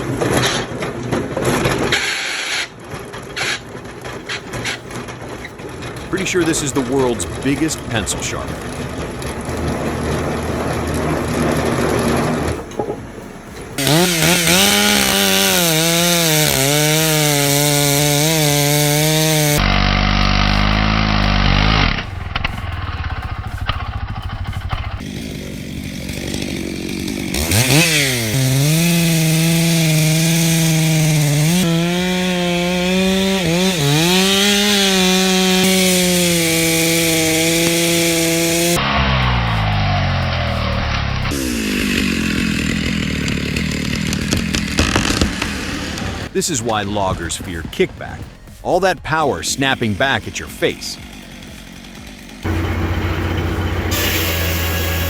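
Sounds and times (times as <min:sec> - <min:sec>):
chainsaw cutting: 0:00.0 - 0:55.0
deep machine hum: 0:06.0 - 0:46.4, 0:51.0 - 0:55.0.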